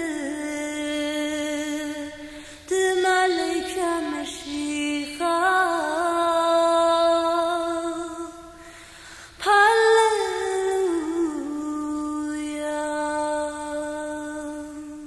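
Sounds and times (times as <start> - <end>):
woman singing a hymn: 0.0 - 8.8, 9.4 - 15.0.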